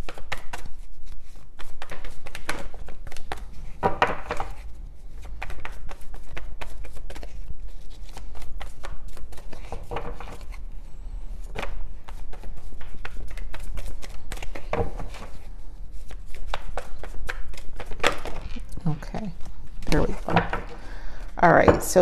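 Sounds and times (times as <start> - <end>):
cards being shuffled: 0.0 - 10.7, 11.4 - 18.8.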